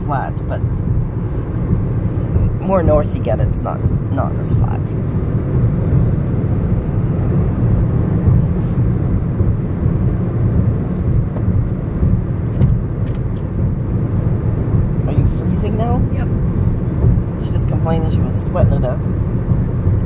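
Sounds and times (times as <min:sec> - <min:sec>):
road and engine rumble in car: 0:00.0 - 0:20.0.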